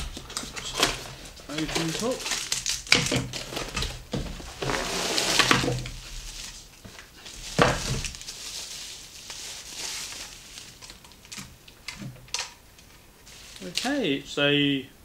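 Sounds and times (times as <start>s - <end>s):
plastic packaging crinkling: 0.0s - 14.1s.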